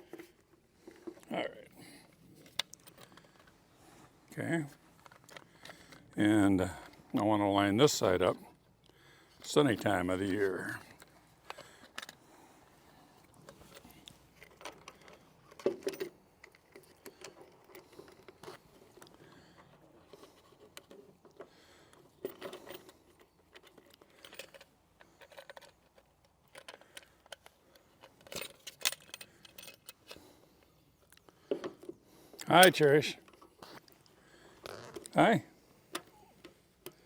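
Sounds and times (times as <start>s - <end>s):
small parts clicking and clinking: 2.0s - 3.7s, 4.7s - 7.3s, 7.9s - 12.4s, 13.2s - 37.0s.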